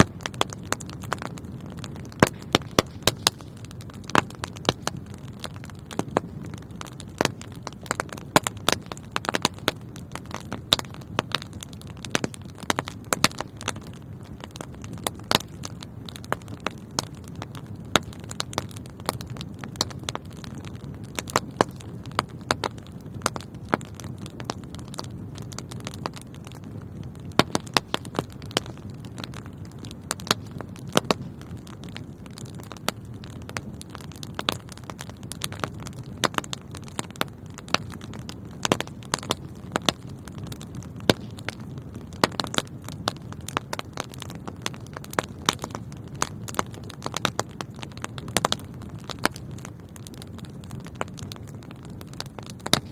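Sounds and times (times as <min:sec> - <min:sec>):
burning logs crackling and popping: 0:00.0 - 0:52.9
fire flames rumbling: 0:00.0 - 0:52.9.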